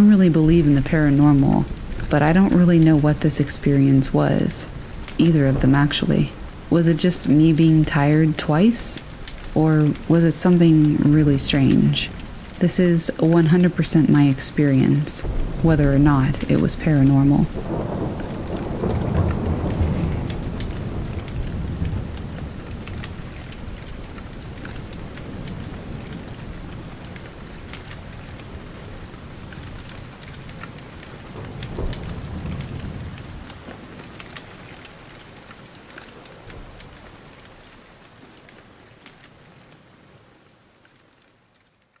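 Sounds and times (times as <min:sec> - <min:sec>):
thunder rolling: 0:00.0 - 0:34.4
steady rain: 0:00.0 - 0:42.0.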